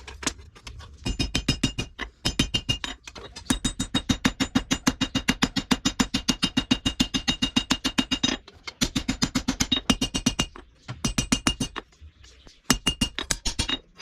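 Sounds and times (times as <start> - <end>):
hammer striking steel on anvil: 1.0 - 11.9, 12.7 - 13.8.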